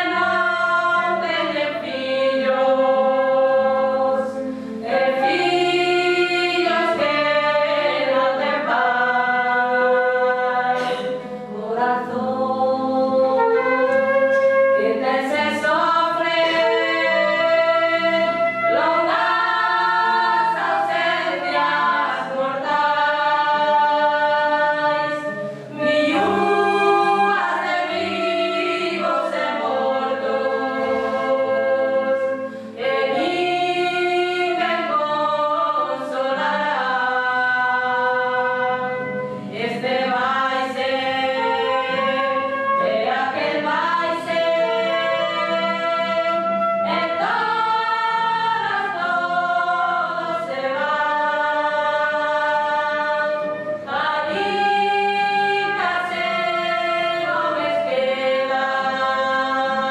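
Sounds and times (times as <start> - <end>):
choir singing chords: 0.0 - 59.9.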